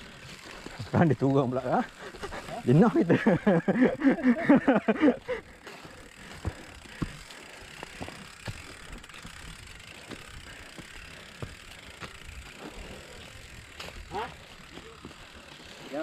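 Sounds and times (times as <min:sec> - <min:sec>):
bike tyres rushing on dirt: 0:00.0 - 0:16.0
bike knocks and rattles: 0:02.2 - 0:16.0.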